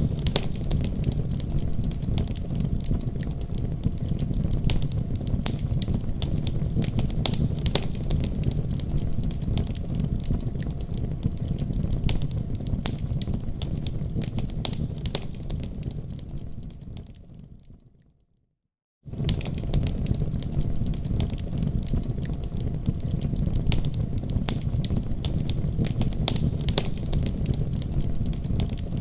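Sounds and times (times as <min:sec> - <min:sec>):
fire burning in a fireplace: 0:00.0 - 0:18.2, 0:19.1 - 0:29.0.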